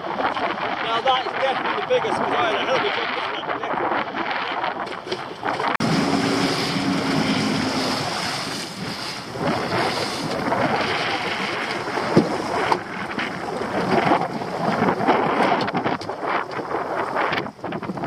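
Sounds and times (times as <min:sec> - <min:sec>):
sea washing against boat: 0:00.0 - 0:18.0
wind buffeting microphone: 0:00.0 - 0:18.0.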